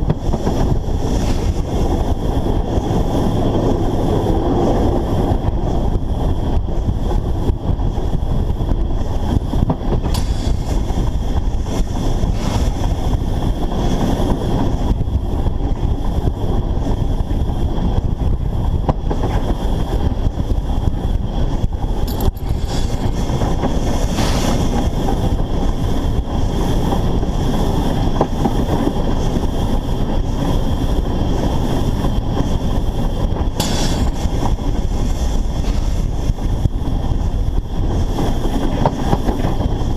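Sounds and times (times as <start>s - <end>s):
steam train rumble and rattle: 0.0s - 39.9s
wind on microphone: 0.0s - 39.9s.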